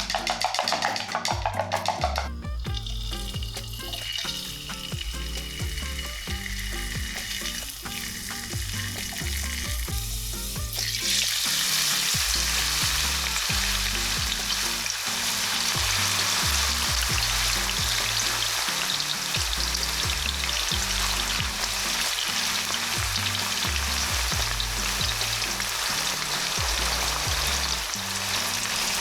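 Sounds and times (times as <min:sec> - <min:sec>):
food sizzling in a pan: 0:00.0 - 0:02.0, 0:02.7 - 0:29.0
background music with bass line: 0:00.0 - 0:29.0.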